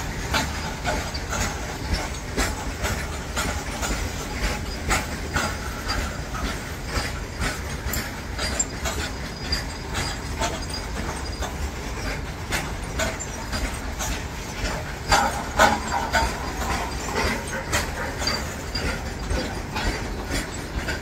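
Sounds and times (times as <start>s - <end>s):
freight train rumbling: 0.0s - 21.0s
wheels clacking over rail joints: 0.0s - 21.0s.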